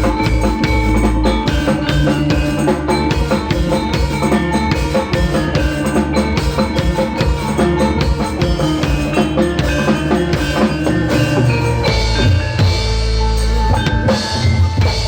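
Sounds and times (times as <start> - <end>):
loud music with drum beat: 0.0 - 15.0.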